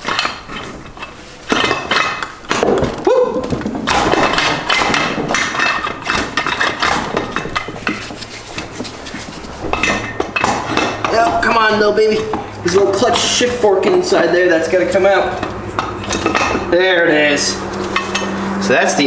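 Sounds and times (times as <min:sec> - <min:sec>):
metal parts and tools clinking: 0:00.0 - 0:02.9, 0:03.7 - 0:19.0.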